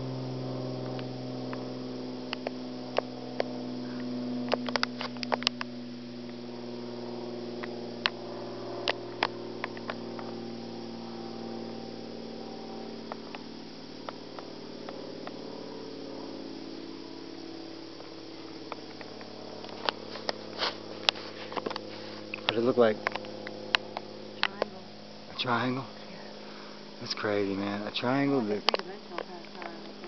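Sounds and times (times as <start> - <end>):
propeller aircraft engine droning: 0.0 - 30.0.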